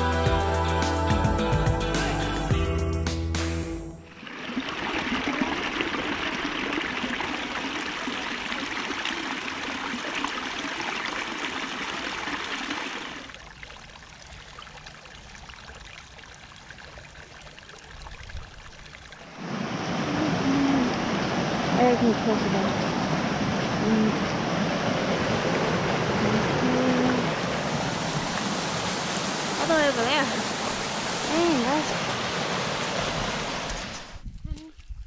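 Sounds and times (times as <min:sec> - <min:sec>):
stream splashing over rocks: 0:04.1 - 0:34.2.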